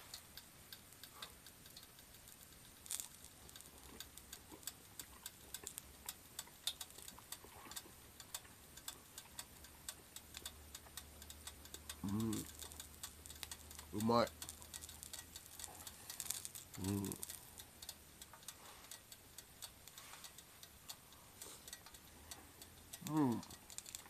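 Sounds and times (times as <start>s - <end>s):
food crackling and popping frying: 0.0s - 24.0s
sharper frying pops: 0.0s - 24.0s.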